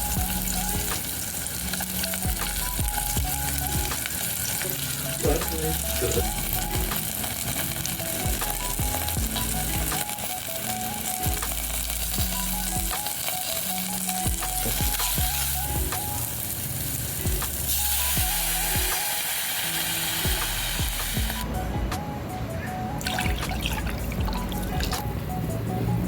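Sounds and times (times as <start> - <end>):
food sizzling in a pan: 0.0 - 21.4
background music with bass: 0.0 - 26.0.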